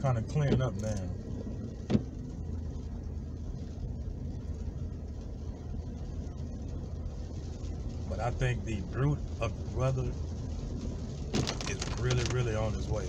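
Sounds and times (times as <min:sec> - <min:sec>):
car engine and tyres rumbling: 0:00.0 - 0:13.0
rain hiss: 0:00.0 - 0:13.0.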